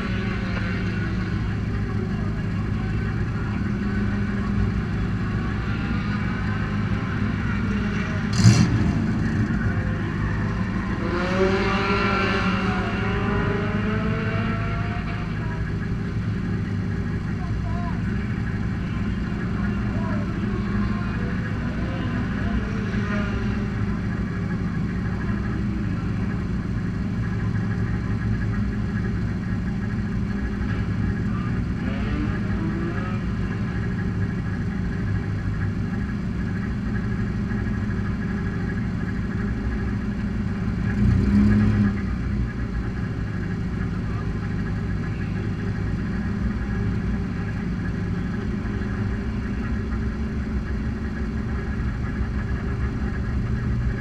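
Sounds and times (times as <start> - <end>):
engine revving: 0.0 - 54.0
race car engines idling: 0.0 - 54.0.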